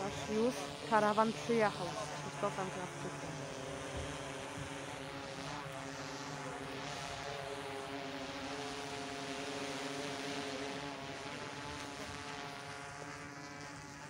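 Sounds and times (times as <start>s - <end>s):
propeller aircraft humming: 0.0s - 14.0s.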